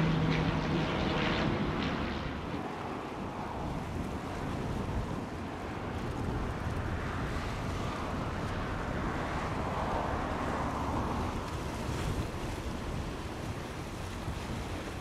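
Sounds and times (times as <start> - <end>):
turboprop engines droning overhead: 0.0 - 15.0
wind rumbling on microphone: 0.0 - 15.0.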